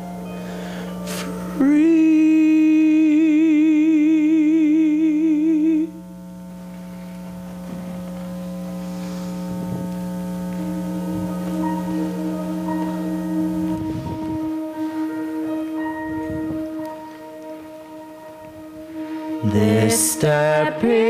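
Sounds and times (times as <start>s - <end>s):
held note with vibrato: 0.0s - 21.0s
sustained orchestral chord: 0.0s - 21.0s.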